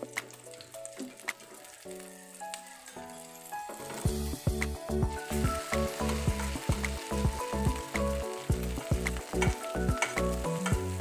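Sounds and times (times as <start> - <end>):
background music: 0.0 - 11.0
fritters sizzling in oil: 0.0 - 11.0.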